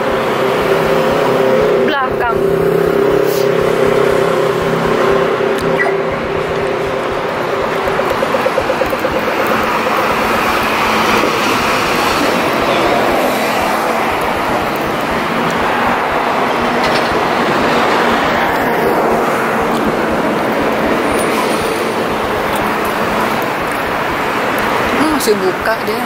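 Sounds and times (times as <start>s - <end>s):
pulsing engine throb: 0.0s - 26.0s
street traffic: 0.0s - 26.0s.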